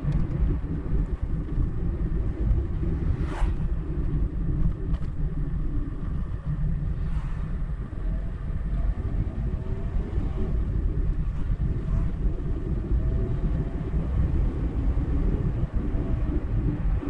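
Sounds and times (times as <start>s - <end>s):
car engine running: 0.0s - 17.0s
faint rising and falling whines: 0.0s - 17.0s
tyres rumbling on road: 0.0s - 17.0s.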